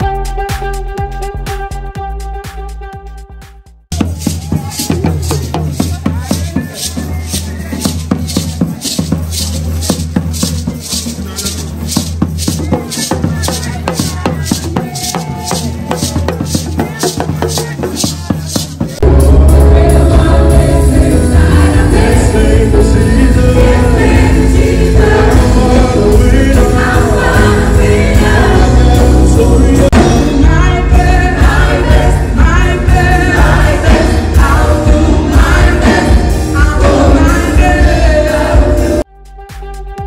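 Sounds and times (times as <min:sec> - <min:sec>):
music with singing voices: 0:00.0 - 0:40.0
strong bass: 0:00.0 - 0:40.0.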